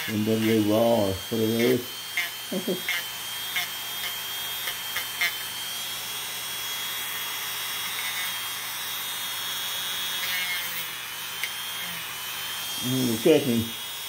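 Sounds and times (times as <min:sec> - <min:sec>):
rotary tool whining and grinding: 0:00.0 - 0:14.0.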